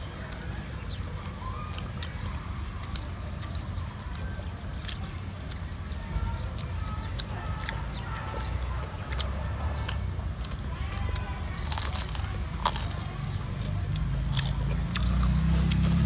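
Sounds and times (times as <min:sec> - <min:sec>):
chewing and lip-smacking: 0:00.2 - 0:16.0.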